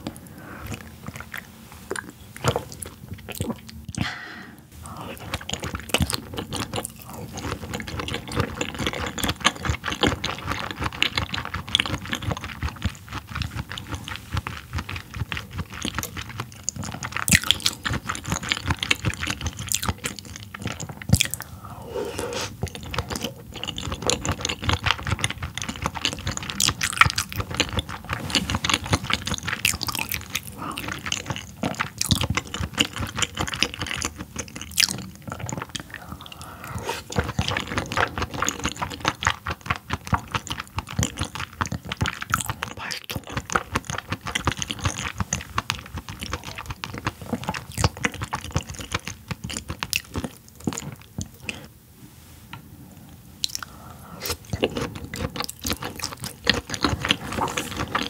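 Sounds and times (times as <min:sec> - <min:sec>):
person chewing: 0:00.0 - 0:51.7, 0:53.4 - 0:58.0.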